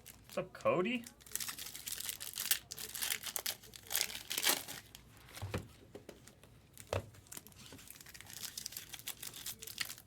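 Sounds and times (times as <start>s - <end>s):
wrapper crinkling and tearing: 0.0s - 5.0s, 6.8s - 10.0s.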